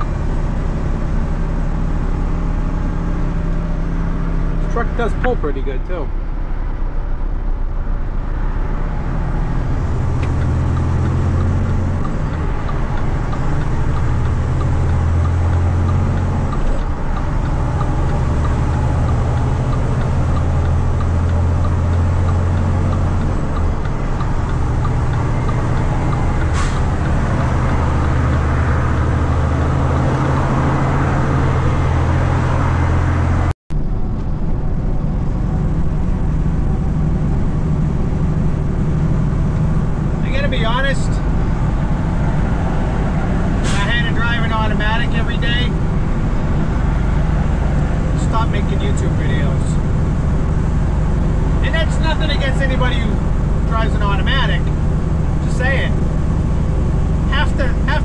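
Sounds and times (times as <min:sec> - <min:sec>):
diesel truck engine droning: 0:00.0 - 0:58.0.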